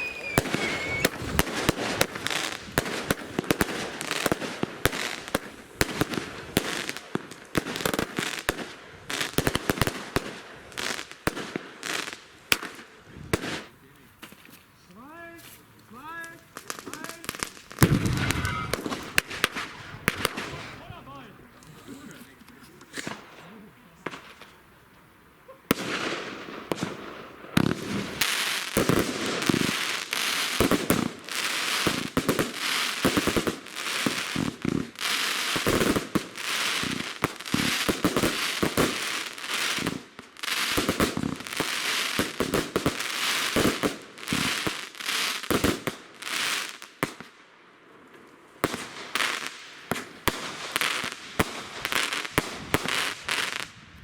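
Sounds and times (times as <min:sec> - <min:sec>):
fireworks bangs and crackle: 0:00.0 - 0:21.5, 0:22.1 - 0:24.8, 0:25.5 - 0:47.4, 0:48.0 - 0:54.0.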